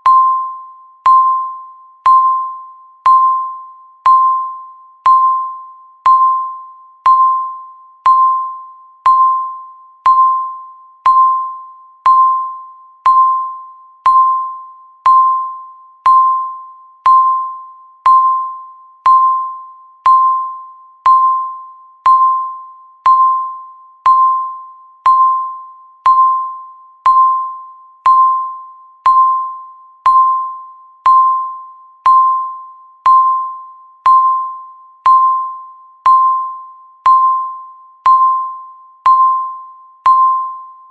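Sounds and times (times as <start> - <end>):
countdown timer beeping: 0.0 - 40.9.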